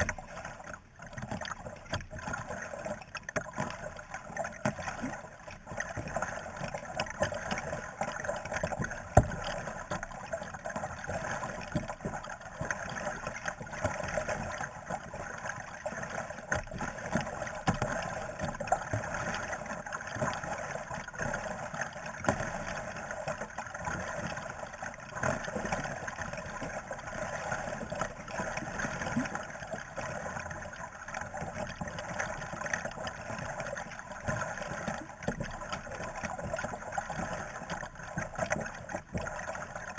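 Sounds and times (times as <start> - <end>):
paddle stirring water: 0.0 - 39.9
small splashes and drips: 0.0 - 39.9.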